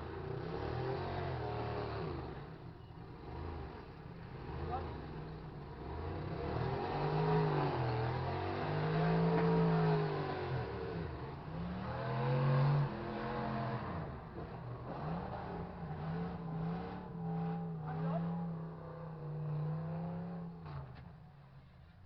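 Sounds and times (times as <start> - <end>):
truck engines revving hard: 0.0 - 21.1.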